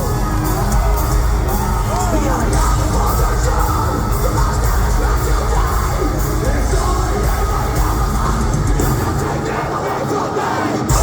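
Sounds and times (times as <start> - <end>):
distorted guitars and bass: 0.0 - 11.0
pounding drums: 0.0 - 11.0
yelled vocals: 0.0 - 11.0.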